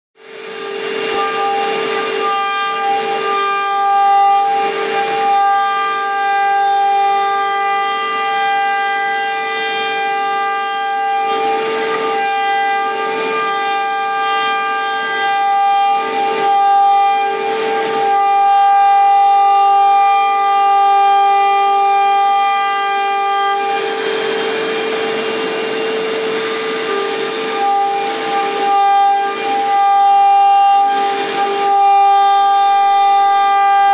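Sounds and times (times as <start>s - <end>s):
router spindle whining: 0.2s - 33.9s.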